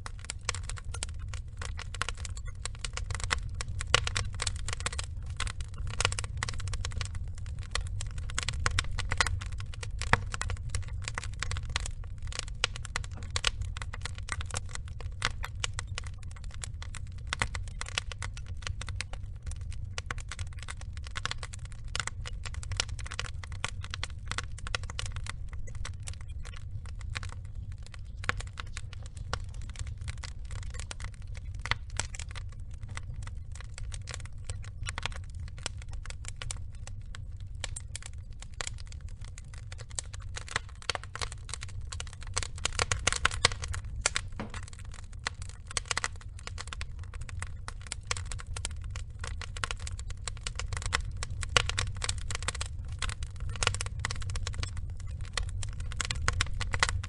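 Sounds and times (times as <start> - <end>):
burning logs crackling: 0.0 - 57.0
low fire rumble: 0.0 - 57.0.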